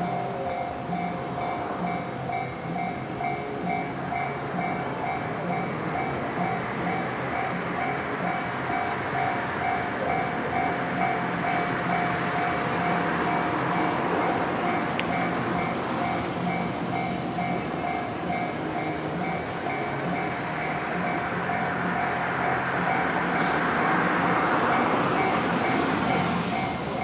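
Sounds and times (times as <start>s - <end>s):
electric train running past: 0.0s - 27.0s
level crossing warning bell: 0.0s - 27.0s.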